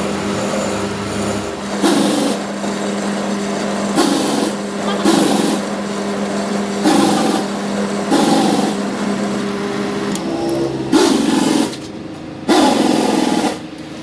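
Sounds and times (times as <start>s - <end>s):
harsh grinding on metal: 0.0s - 14.0s
power tool motor hum: 0.0s - 14.0s.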